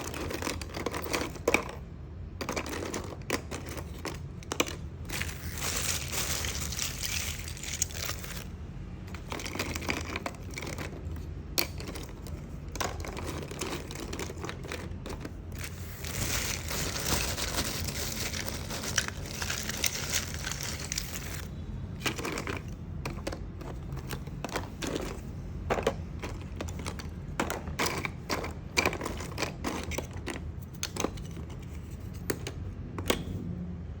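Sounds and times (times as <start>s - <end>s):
crinkling and rustling: 0.0s - 33.4s.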